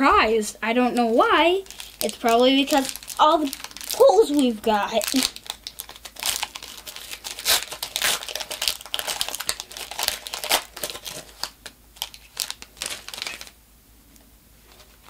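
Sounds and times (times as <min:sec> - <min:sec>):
foil wrapper crinkling: 0:01.4 - 0:13.6.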